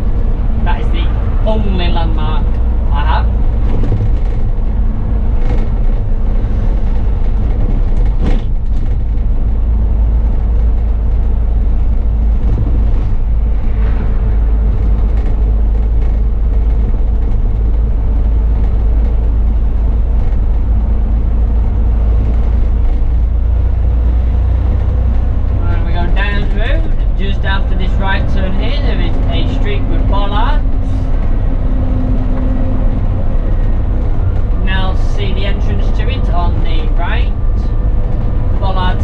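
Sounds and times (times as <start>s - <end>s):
bus engine rumbling: 0.0s - 39.0s.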